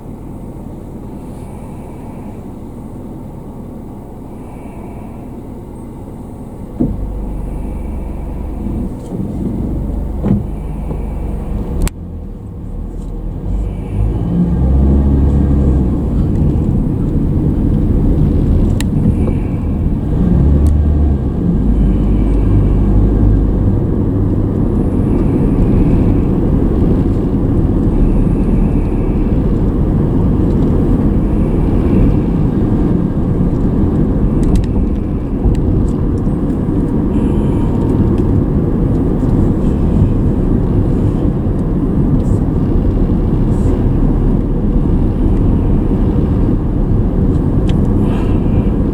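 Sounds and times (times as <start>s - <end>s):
car interior road rumble: 0.0s - 48.9s.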